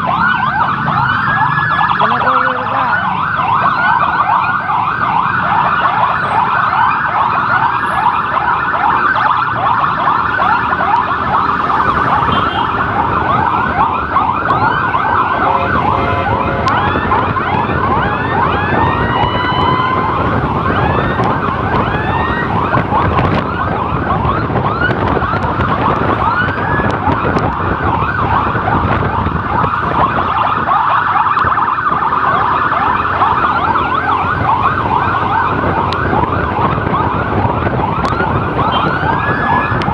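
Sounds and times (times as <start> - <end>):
fast warbling siren: 0.0 - 39.9
road and engine noise: 0.0 - 39.9
slow gliding siren: 0.0 - 39.9.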